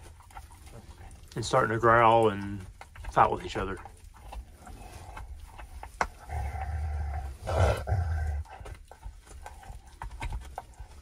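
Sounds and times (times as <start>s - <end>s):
puppies growling: 0.0s - 11.0s.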